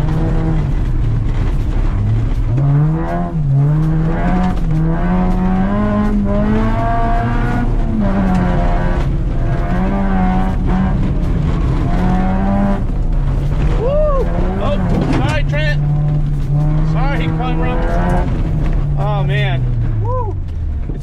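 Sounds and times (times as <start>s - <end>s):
car engine revving hard: 0.0s - 21.0s.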